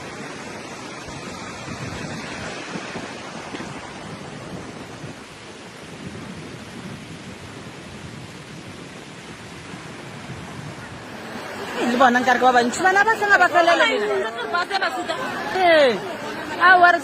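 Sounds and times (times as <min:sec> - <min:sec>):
heavy rain rushing: 0:00.0 - 0:17.0.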